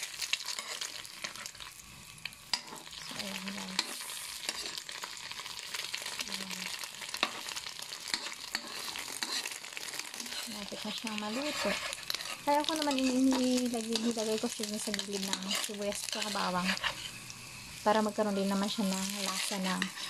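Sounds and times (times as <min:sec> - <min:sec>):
egg sizzling in oil: 0:00.0 - 0:20.0
spatula scraping a pan: 0:00.3 - 0:01.8, 0:02.5 - 0:17.3, 0:18.3 - 0:20.0.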